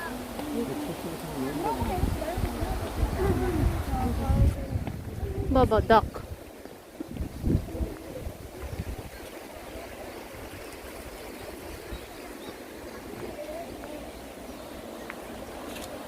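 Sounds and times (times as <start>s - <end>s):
faint voices: 0.0s - 6.3s, 7.2s - 15.6s
stream water flowing: 0.0s - 16.0s.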